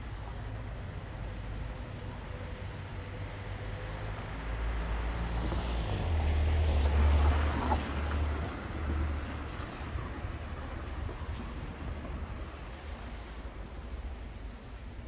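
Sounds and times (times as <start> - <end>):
car driving past on wet street: 2.4 - 14.9.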